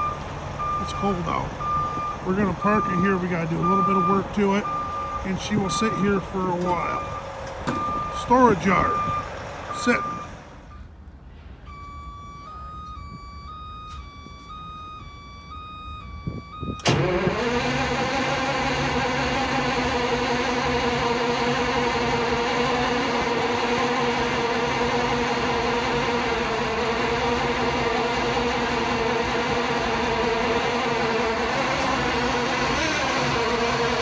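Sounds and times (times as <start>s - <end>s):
diesel engine cranking and running: 0.0s - 34.0s.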